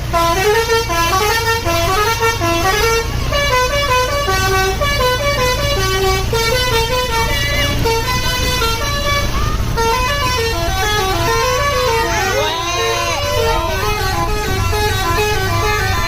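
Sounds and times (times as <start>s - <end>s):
low engine hum: 0.0s - 16.0s
musical bus horn playing a tune: 0.0s - 16.0s.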